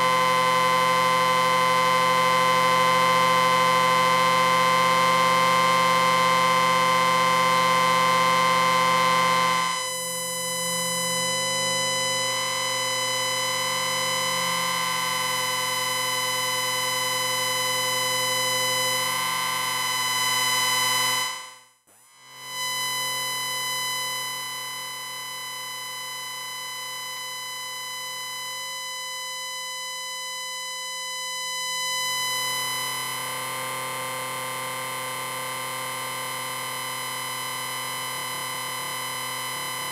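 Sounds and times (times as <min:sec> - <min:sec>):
amplifier whine: 0:00.0 - 0:39.9.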